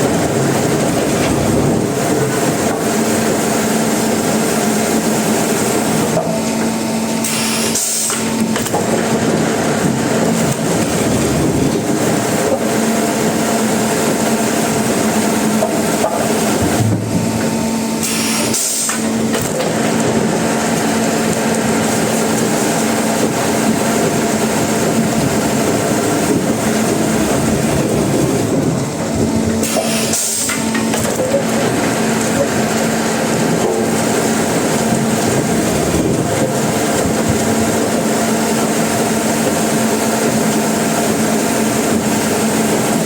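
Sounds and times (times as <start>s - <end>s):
steady motor hum: 0.0s - 43.0s.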